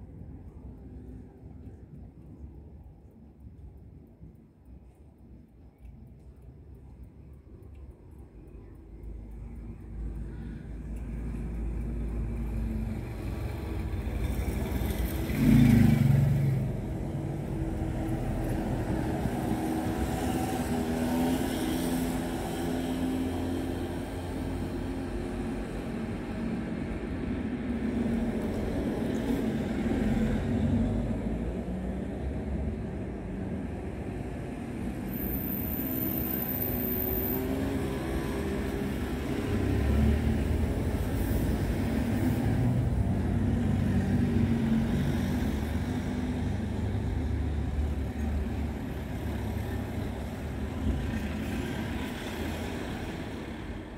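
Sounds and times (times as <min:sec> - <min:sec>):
cars passing close by: 0:10.4 - 0:53.9.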